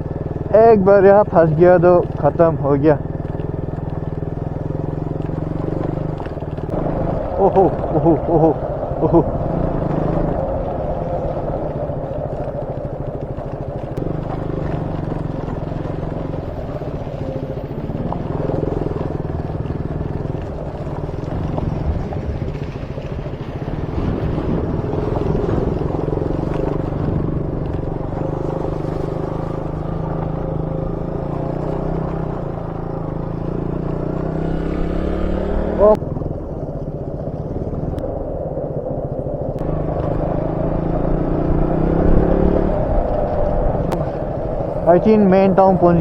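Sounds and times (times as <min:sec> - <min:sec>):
motorcycle engine droning: 0:00.0 - 0:46.0.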